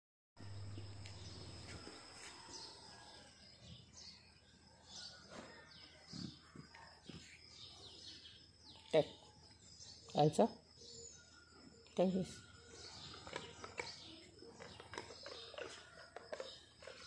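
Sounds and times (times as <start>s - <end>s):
small birds chirping: 0.8s - 17.0s.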